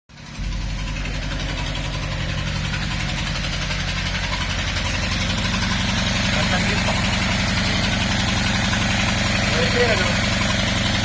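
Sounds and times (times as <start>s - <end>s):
car engine idling roughly: 0.1s - 11.0s.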